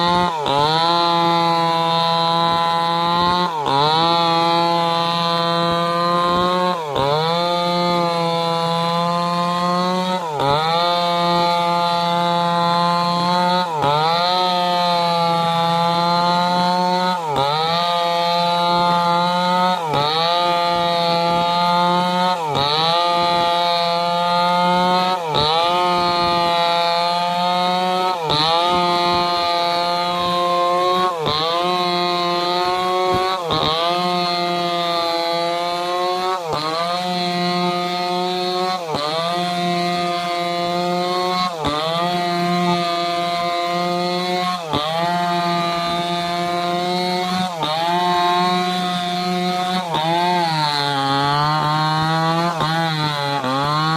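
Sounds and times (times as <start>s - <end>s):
chainsaw cutting a log: 0.0s - 53.9s.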